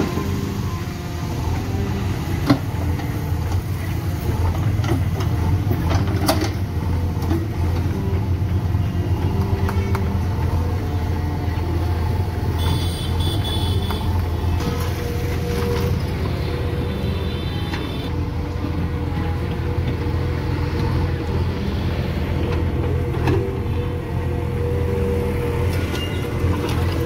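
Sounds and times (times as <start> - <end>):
diesel engines running: 0.0 - 27.0.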